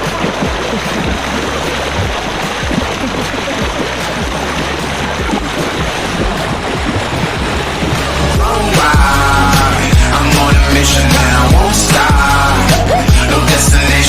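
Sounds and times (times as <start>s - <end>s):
rushing splashing water: 0.0s - 14.0s.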